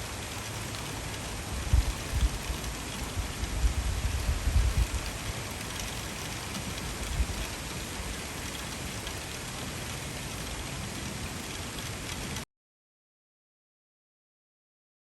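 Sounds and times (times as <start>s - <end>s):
heavy rain downpour: 0.0s - 12.4s.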